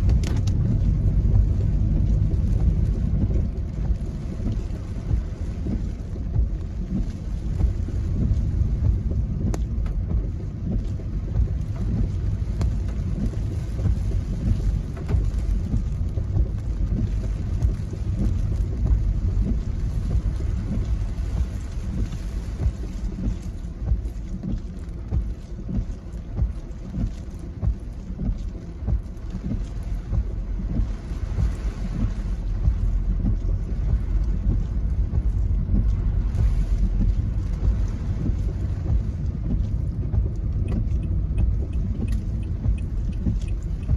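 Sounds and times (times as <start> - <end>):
gusty wind buffeting microphone: 0.0 - 24.1, 27.6 - 43.9.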